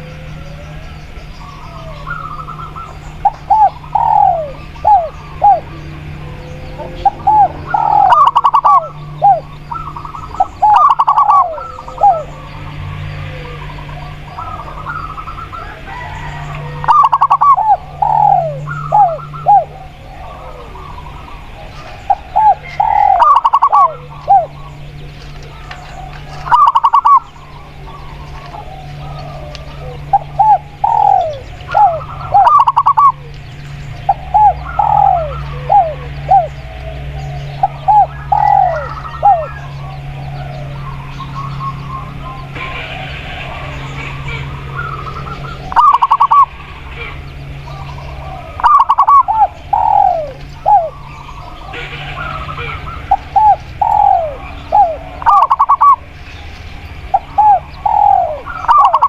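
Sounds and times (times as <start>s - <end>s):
doves cooing: 0.0s - 59.0s
steady low hum: 0.0s - 59.0s.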